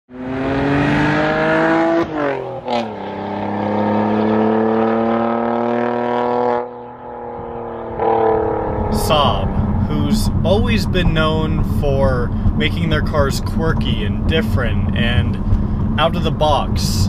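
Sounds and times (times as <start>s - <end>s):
car engine accelerating hard: 0.1s - 17.0s.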